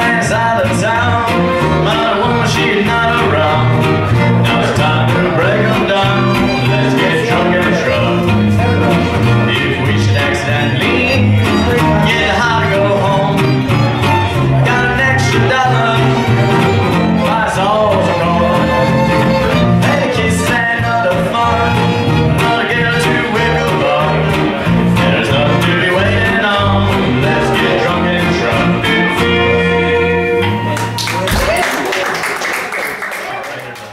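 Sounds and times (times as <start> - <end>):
fiddle: 0.0 - 30.9
strummed guitars: 0.0 - 31.9
bass: 0.0 - 32.1.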